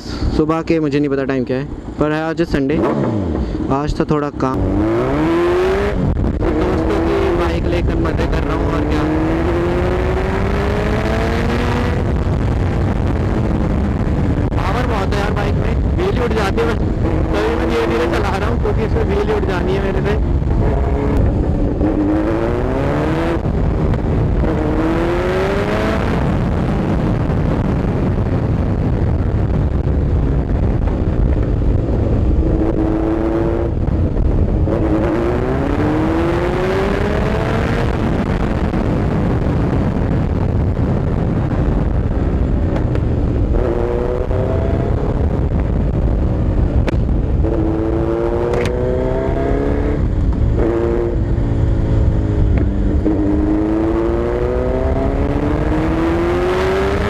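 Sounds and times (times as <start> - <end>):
wind rumble on microphone: 0.0 - 57.0
motorcycle engine accelerating: 2.6 - 57.0.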